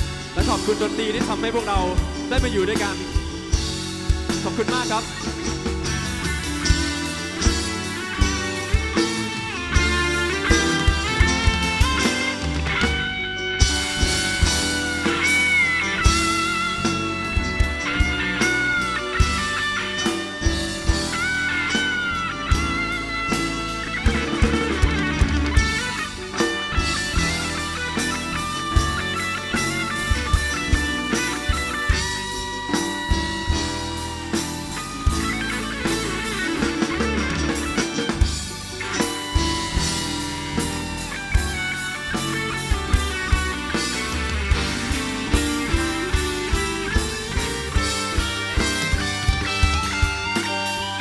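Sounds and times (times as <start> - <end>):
drum kit: 0.0 - 51.0
electric guitar lead: 0.0 - 51.0.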